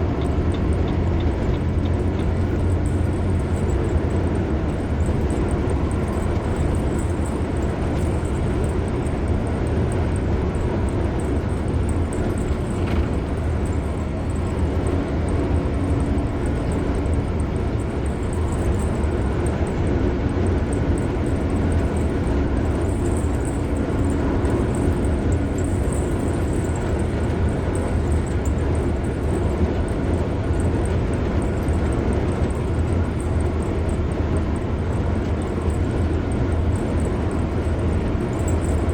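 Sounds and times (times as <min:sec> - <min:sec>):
car road and tyre noise: 0:00.0 - 0:38.9.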